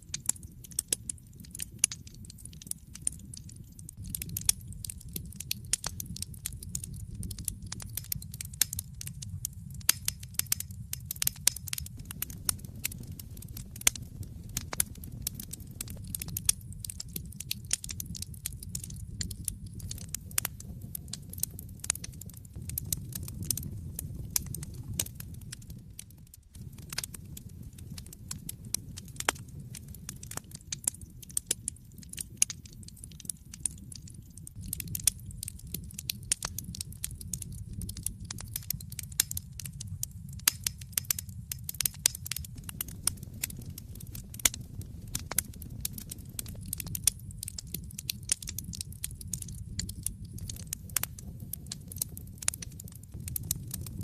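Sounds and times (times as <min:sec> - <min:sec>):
burning logs crackling and popping: 0:00.0 - 0:54.0
wood fire flames rumbling: 0:00.0 - 0:54.0.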